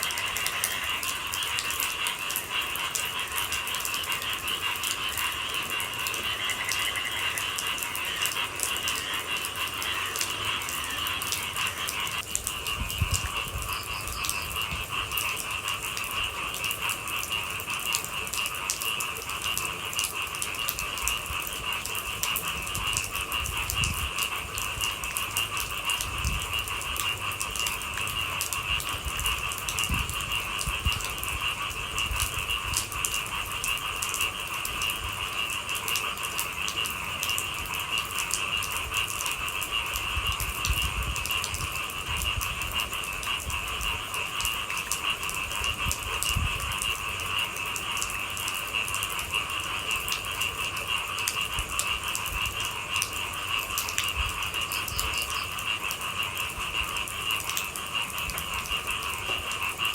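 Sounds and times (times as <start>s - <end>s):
night chorus of calling animals: 0.0s - 40.5s, 41.3s - 59.9s
faint rain ticking: 0.0s - 59.9s.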